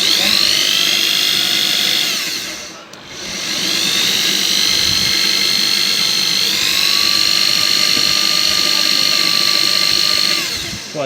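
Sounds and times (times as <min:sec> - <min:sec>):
electric drill whining: 0:00.0 - 0:11.0.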